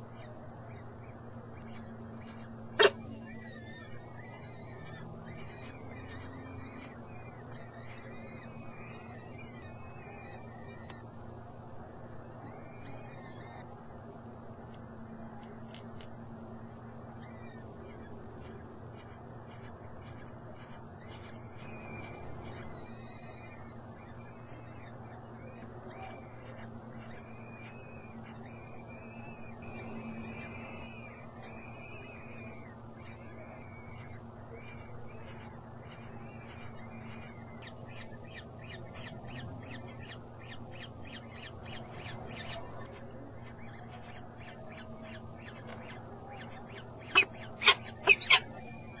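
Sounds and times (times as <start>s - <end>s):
steady low hum: 0.0s - 49.0s
falcon chicks chirping: 1.5s - 11.0s, 17.2s - 49.0s.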